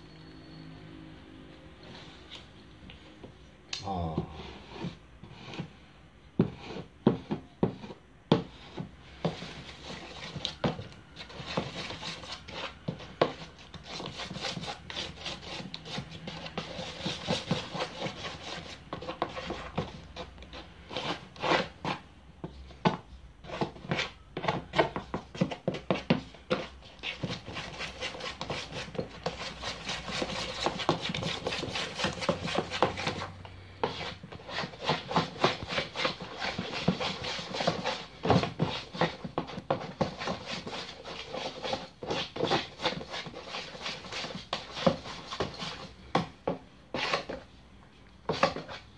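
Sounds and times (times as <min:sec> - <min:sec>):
putty knife scraping filler: 0:06.4 - 0:22.0, 0:22.9 - 0:47.4.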